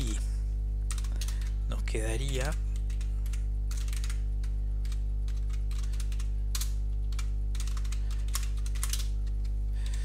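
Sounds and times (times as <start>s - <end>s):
loud electrical mains hum: 0.0s - 10.0s
keyboard keys clicking: 0.9s - 1.6s, 2.3s - 10.0s.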